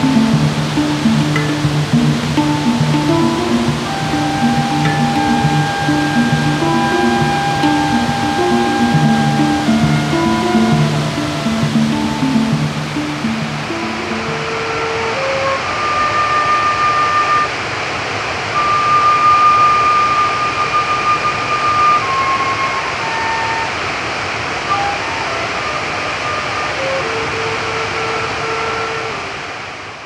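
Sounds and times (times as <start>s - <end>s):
flute playing long notes: 0.0s - 17.8s, 18.5s - 29.7s
stream rushing: 0.0s - 30.0s.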